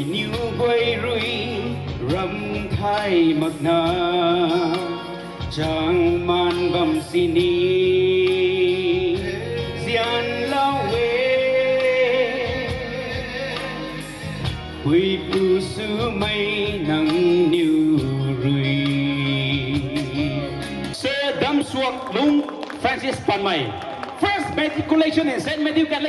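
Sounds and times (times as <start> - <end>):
man singing into a microphone: 0.0 - 21.4
backing music: 0.0 - 26.0.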